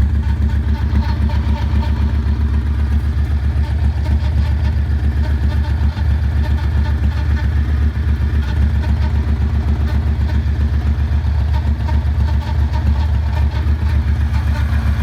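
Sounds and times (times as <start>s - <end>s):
motorcycle engine idling: 0.0s - 15.0s
strange engine noise: 0.0s - 15.0s.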